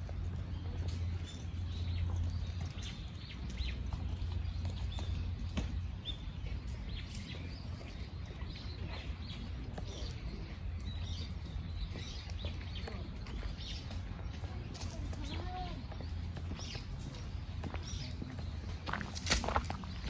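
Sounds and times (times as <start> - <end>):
footsteps on dry leaves: 0.0 - 20.0.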